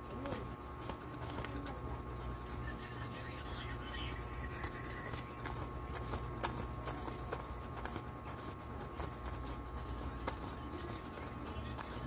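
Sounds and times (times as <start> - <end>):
banknotes flicked while counting: 0.1 - 12.0.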